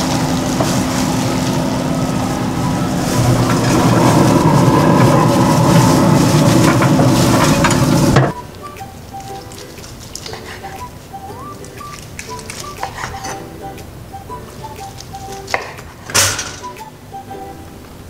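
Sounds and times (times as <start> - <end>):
pellet grill humming and hissing: 0.0 - 18.0.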